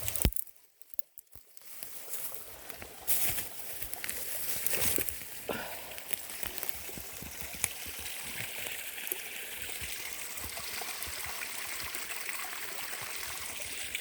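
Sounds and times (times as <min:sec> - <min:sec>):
creek water trickling: 0:00.0 - 0:14.0.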